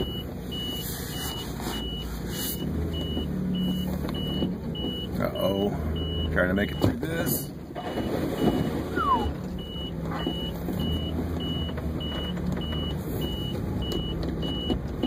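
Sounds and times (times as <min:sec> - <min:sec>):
vehicle warning beep: 0:00.0 - 0:15.0.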